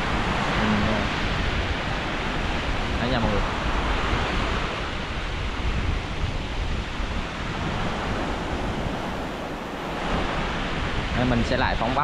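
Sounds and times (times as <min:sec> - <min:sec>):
surf washing on a beach: 0:00.0 - 0:12.0
wind buffeting microphone: 0:00.0 - 0:12.0.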